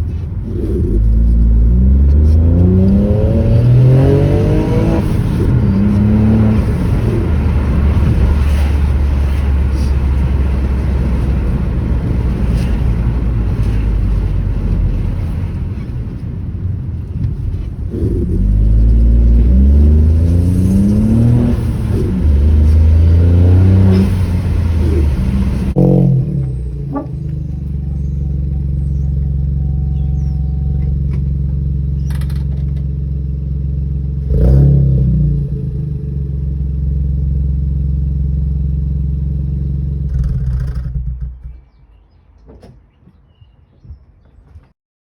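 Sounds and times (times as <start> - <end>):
car engine accelerating: 0.0 - 41.8.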